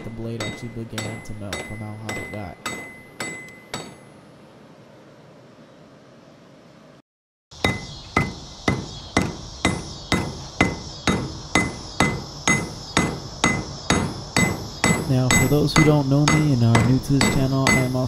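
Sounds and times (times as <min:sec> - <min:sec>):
hammer ringing on metal anvil: 0:00.0 - 0:04.1, 0:07.6 - 0:18.0.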